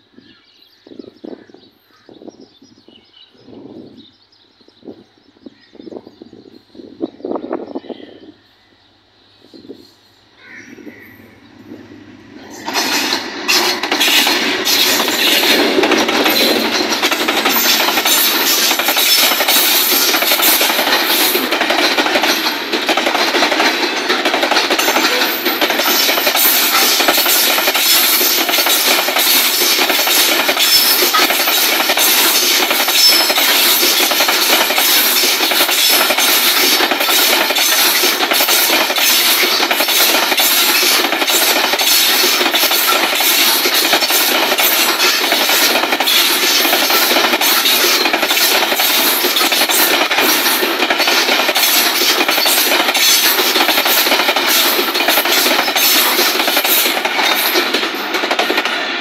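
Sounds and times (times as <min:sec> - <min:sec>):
train wheels clattering over rail joints: 0:10.8 - 0:59.0.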